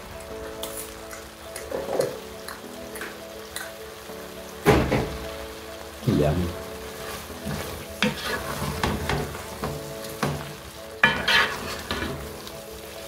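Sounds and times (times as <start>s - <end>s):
sauce sizzling: 0.0s - 13.0s.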